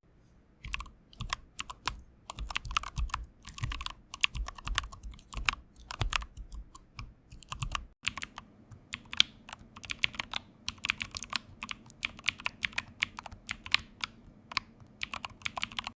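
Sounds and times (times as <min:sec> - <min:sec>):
keyboard typing clicks: 0:00.6 - 0:15.9.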